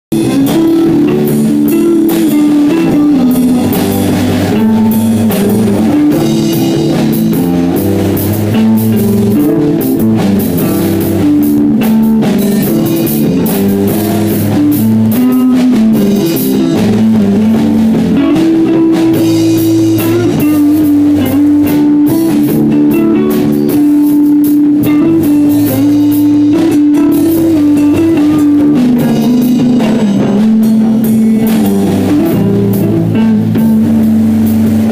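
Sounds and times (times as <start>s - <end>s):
repeating bass line: 0.1s - 34.9s
rock band playing: 0.1s - 34.9s.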